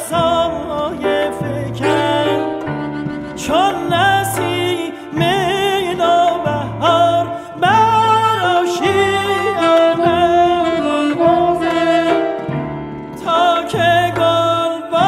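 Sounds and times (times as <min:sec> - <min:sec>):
song melody with vibrato: 0:00.0 - 0:14.4
held bass notes: 0:00.0 - 0:15.0.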